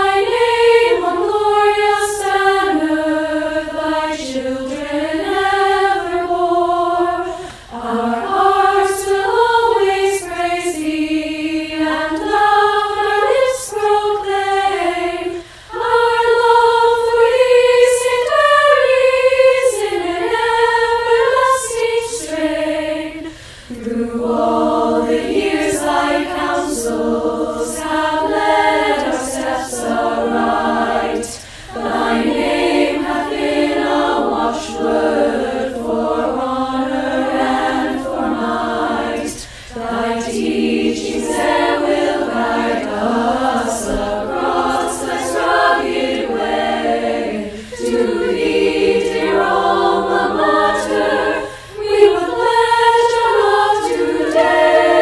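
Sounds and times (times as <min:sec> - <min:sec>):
girls' choir singing: 0:00.0 - 0:55.0.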